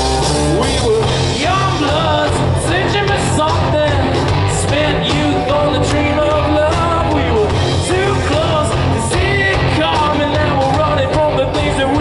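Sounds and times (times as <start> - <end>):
live rock band through loudspeakers: 0.0 - 12.0
man singing: 0.2 - 12.0.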